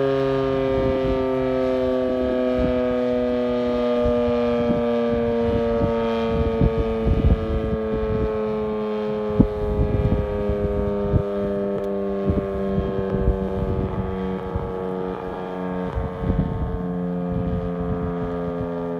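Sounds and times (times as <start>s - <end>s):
warning siren: 0.0s - 18.9s
wind buffeting microphone: 0.0s - 18.9s.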